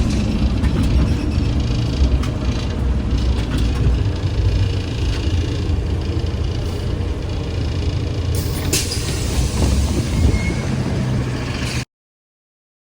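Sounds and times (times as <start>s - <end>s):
trolleybus rumble: 0.0s - 11.9s.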